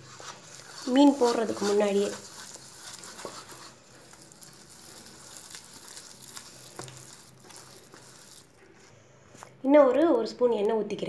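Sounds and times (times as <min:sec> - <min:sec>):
hand squishing paste in steel bowl: 0:00.0 - 0:09.5.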